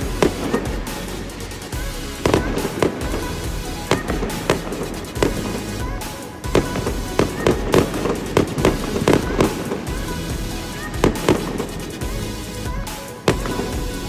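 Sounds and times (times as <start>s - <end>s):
fireworks bangs: 2.2s - 14.0s.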